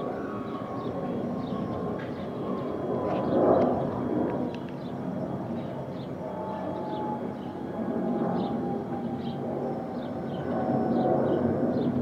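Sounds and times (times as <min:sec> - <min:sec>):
jet airliner flying overhead: 0:00.0 - 0:12.0.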